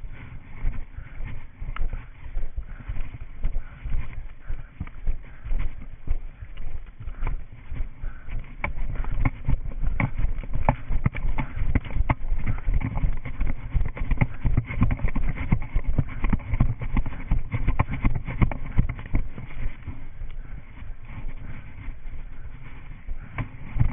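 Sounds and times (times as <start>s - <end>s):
running footsteps on grass: 0.0s - 23.9s
wind rumble: 0.0s - 23.9s.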